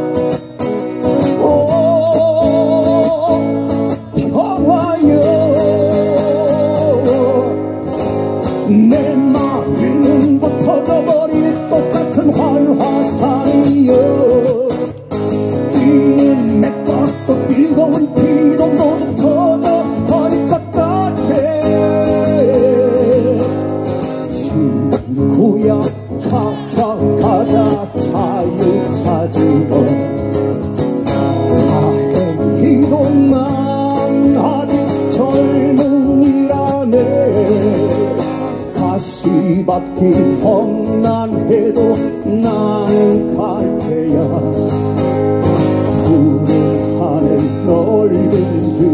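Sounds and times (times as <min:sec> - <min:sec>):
guitar: 0:00.0 - 0:48.9
person singing: 0:01.3 - 0:07.6, 0:08.6 - 0:23.6, 0:24.3 - 0:30.2, 0:31.1 - 0:44.7, 0:45.8 - 0:48.9.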